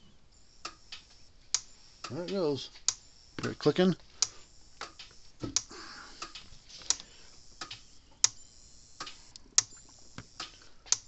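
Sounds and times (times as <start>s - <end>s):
electric fence charger clicking: 0.3s - 11.0s.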